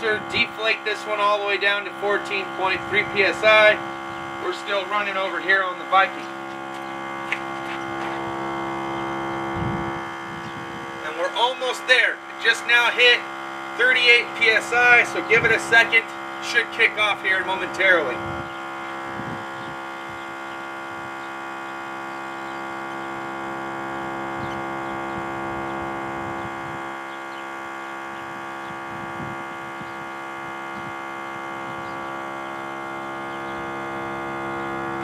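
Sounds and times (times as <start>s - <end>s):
tire inflator compressor humming: 0.0s - 35.0s.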